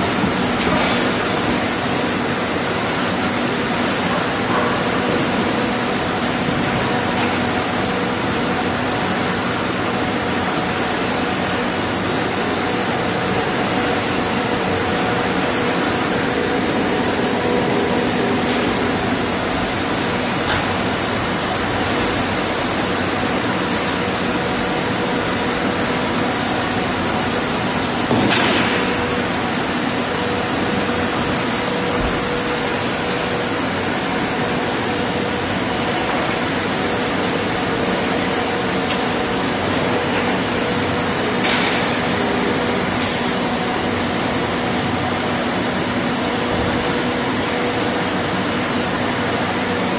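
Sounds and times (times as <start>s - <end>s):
loud machinery noise: 0.0s - 49.9s.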